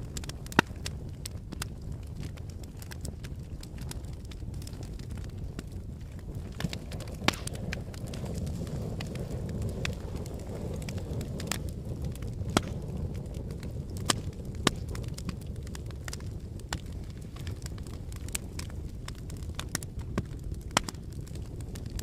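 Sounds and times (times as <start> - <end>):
sharp cracks and snaps: 0.0 - 22.0
volcanic low rumble: 0.0 - 22.0.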